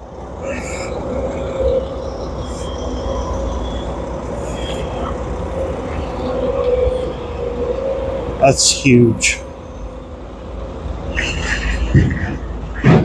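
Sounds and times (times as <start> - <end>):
constant whining tone: 0.0 - 13.0
low vehicle rumble: 0.0 - 13.0.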